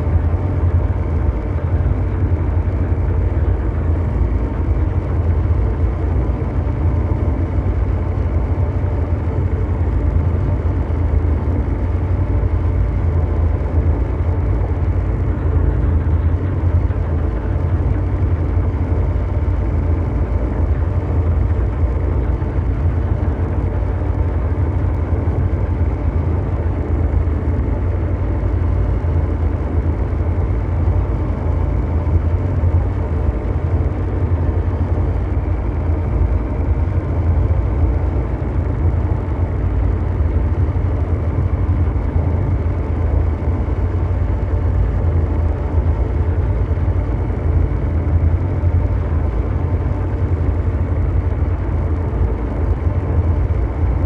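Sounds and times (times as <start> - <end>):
deep mechanical drone: 0.0 - 54.0
faint hum tones: 0.0 - 54.0.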